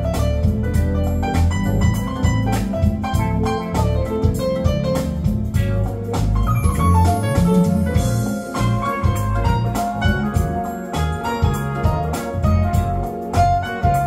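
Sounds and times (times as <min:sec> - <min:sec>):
smooth jazz through a speaker: 0:00.0 - 0:14.0.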